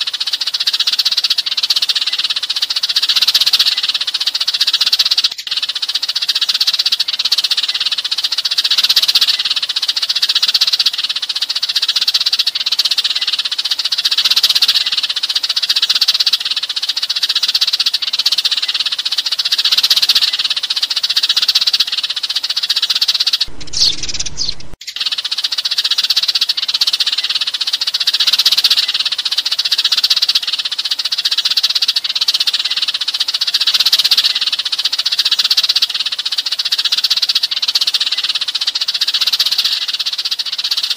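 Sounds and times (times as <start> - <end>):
sparrows chirping and chattering: 0.0 - 40.9.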